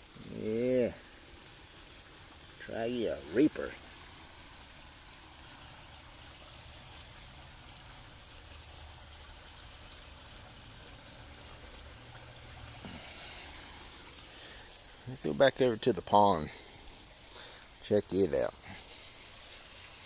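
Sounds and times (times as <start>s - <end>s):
pond waterfall and fountain trickling: 0.0s - 20.0s.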